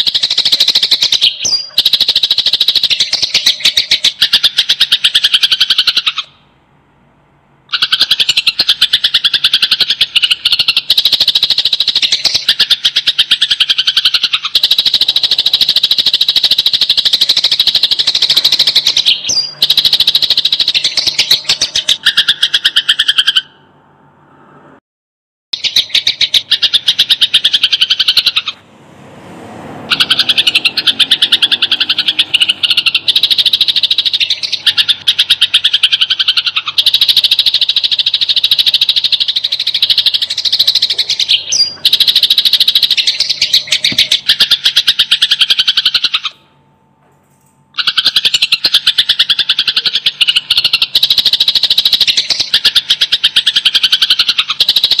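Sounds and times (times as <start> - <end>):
sparrows chattering: 0.0 - 6.3, 7.7 - 23.5, 25.6 - 28.6, 29.9 - 46.4, 47.8 - 55.0.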